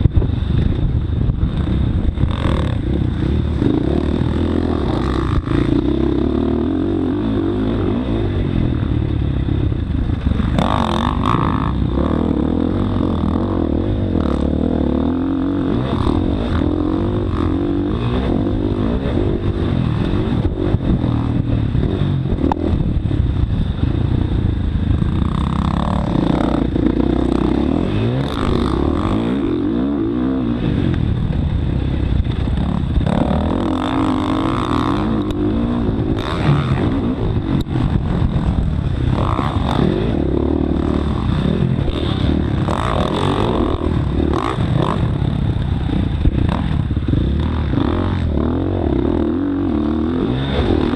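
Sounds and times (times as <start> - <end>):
dirt bike engine revving: 1.4 - 50.9.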